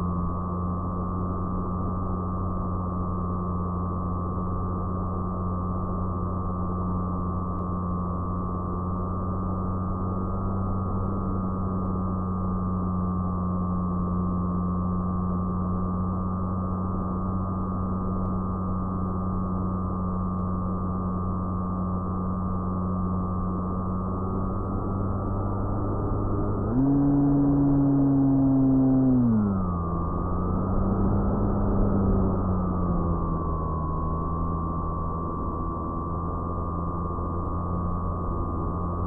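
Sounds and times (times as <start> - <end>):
model plane motor whine: 0.0 - 39.0.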